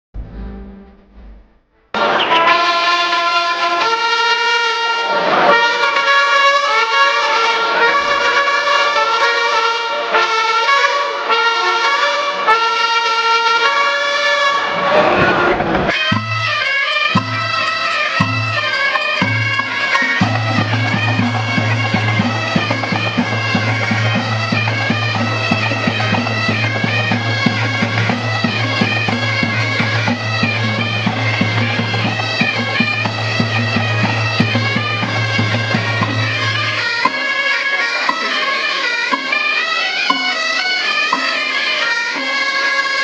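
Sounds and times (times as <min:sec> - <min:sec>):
bagpipes melody: 0:02.0 - 0:14.8, 0:15.9 - 0:43.0
bagpipe drone: 0:02.0 - 0:43.0.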